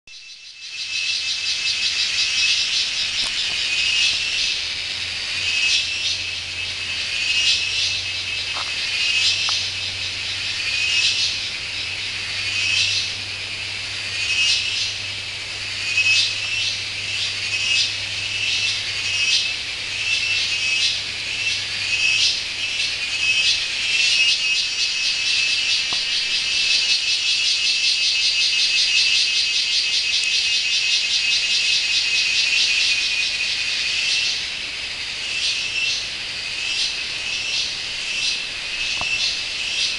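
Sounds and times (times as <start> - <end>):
pulsing high-pitched animal calls: 0.7 - 34.5.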